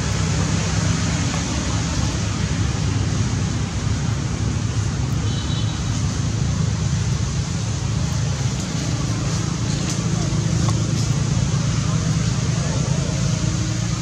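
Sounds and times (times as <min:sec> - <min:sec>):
steady rushing outdoor noise: 0:00.0 - 0:14.0.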